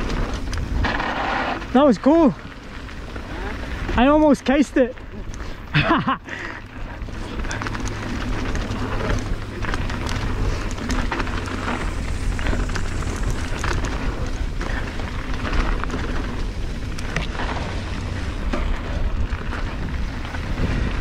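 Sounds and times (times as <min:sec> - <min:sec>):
bike rattling clicks: 0:00.0 - 0:21.0
bike tyres on dirt: 0:00.0 - 0:21.0
wind rumble on microphone: 0:00.0 - 0:21.0.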